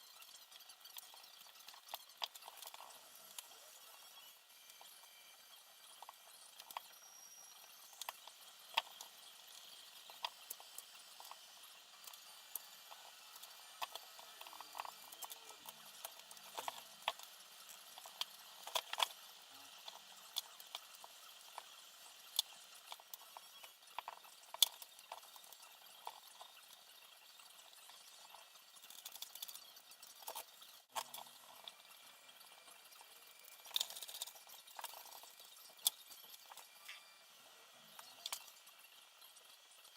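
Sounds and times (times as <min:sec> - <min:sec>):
small parts and tools clicking: 0:00.0 - 0:39.9.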